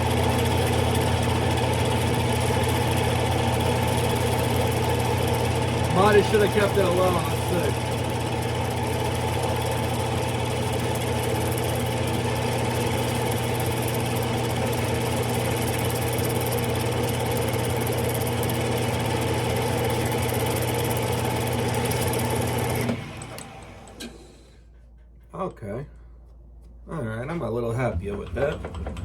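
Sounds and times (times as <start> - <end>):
lathe humming and winding down: 0.0 - 24.5, 27.3 - 29.0.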